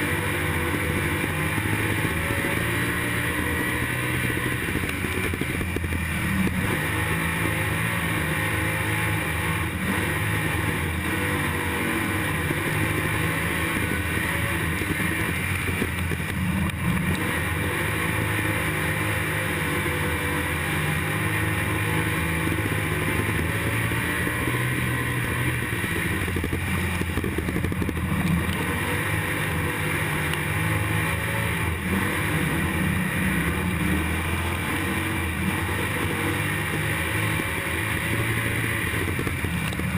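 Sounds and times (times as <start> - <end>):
racing car engine running hard: 0.0 - 39.9.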